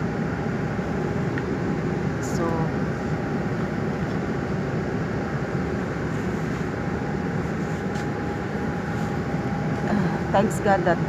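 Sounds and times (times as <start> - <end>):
faint steady whine: 0.0 - 11.0
vehicle engine rumble: 0.0 - 11.0.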